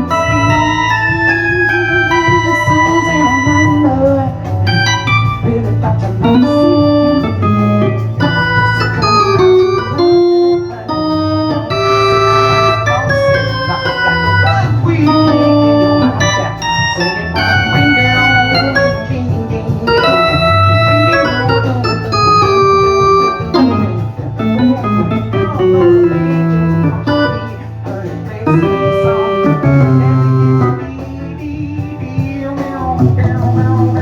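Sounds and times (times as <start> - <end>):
repeating bass line: 0.0 - 32.1
electric piano: 0.0 - 34.0
organ holding chords: 0.0 - 34.0.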